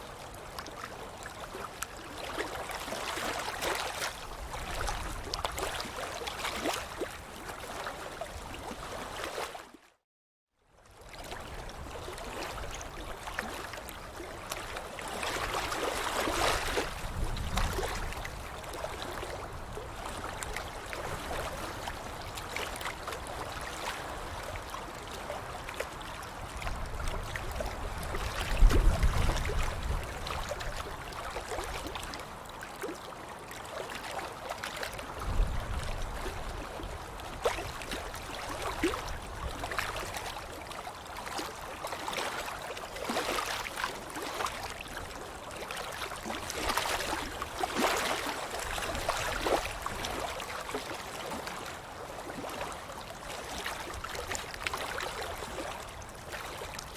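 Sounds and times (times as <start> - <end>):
water splashing and sloshing: 0.0 - 10.0, 10.8 - 56.9.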